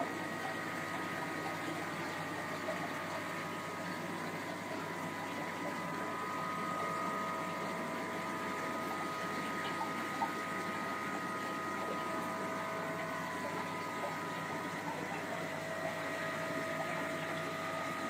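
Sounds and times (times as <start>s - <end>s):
aquarium pump hum: 0.0s - 18.0s
circulating water: 0.0s - 18.0s.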